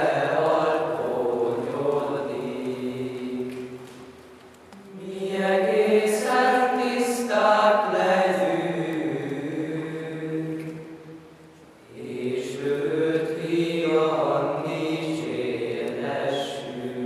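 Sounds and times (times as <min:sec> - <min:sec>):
choir singing plainchant: 0:00.0 - 0:04.1, 0:04.8 - 0:17.0.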